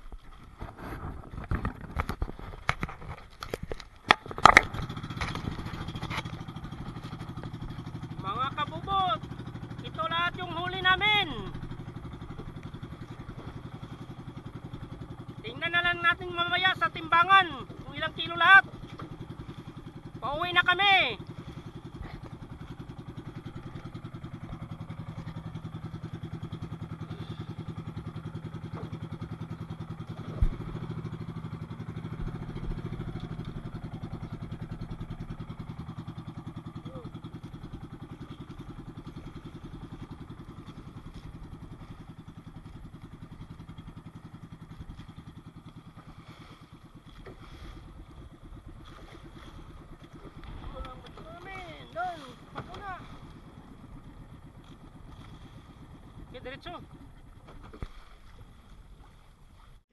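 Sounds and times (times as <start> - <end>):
small boat engine running: 0.0 - 59.9.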